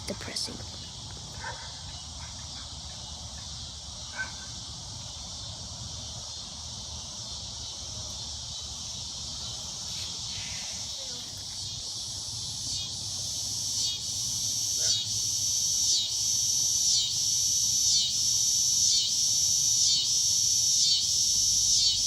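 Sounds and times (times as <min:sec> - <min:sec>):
insect chorus: 0:00.0 - 0:22.0.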